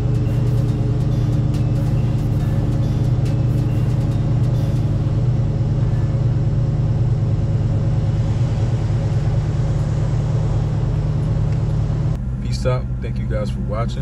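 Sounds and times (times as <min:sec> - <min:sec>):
engine idling deep rumble: 0:00.0 - 0:14.0.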